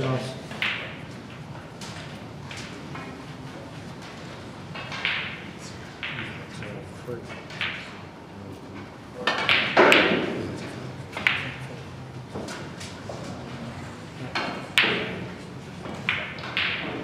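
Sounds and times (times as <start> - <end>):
snooker balls clicking: 0.5 - 8.2, 8.8 - 17.0.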